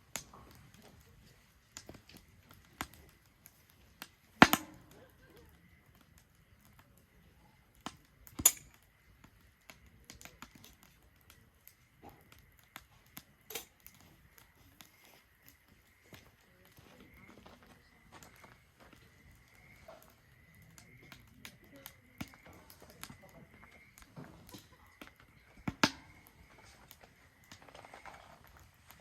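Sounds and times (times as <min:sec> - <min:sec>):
sharp fire pops: 0:00.0 - 0:29.0
wood fire crackling: 0:00.0 - 0:29.0.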